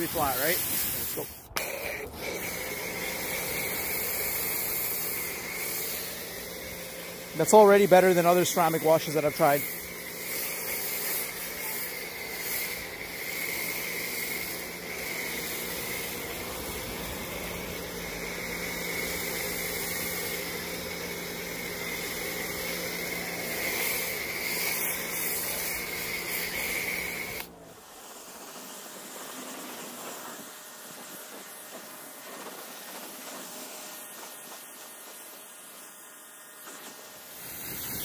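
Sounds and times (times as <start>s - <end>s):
pressure washer spraying: 0.0s - 38.0s.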